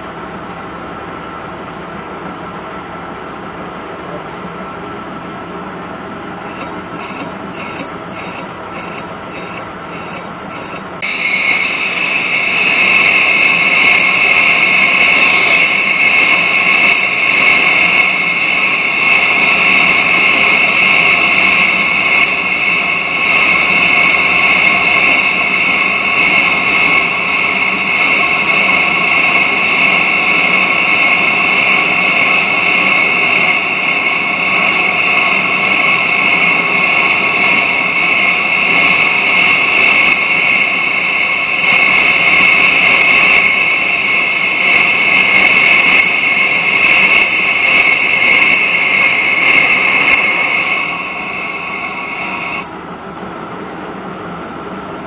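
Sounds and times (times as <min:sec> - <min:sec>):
metal lathe spindle running: 0:05.9 - 0:52.6
high-pitched ring of cutting tool: 0:06.4 - 0:52.7.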